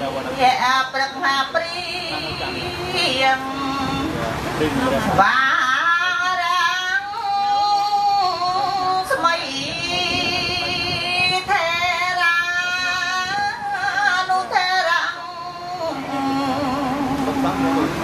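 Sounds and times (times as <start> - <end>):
woman chanting: 0.3 - 4.2, 5.2 - 17.4.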